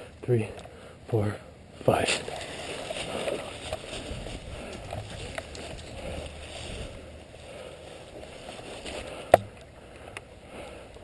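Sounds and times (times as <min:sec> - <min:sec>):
rustle of movement: 0:00.4 - 0:11.0.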